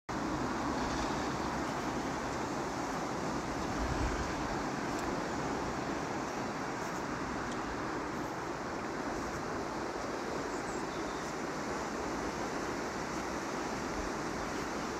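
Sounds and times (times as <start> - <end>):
wind rumble on microphone: 0.1 - 14.9.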